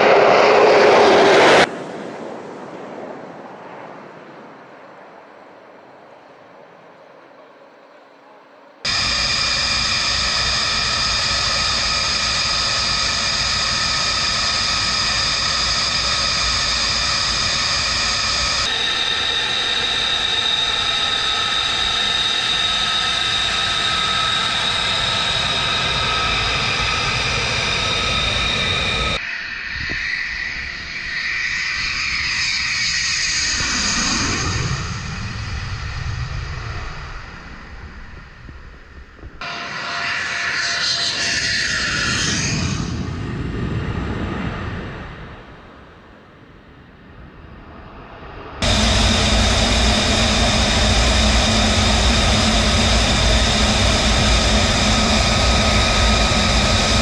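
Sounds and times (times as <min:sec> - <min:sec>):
jet engine whining: 0:00.0 - 0:02.1, 0:08.8 - 0:45.6, 0:47.0 - 0:57.0
jet rolling past: 0:00.0 - 0:07.2, 0:08.8 - 0:57.0.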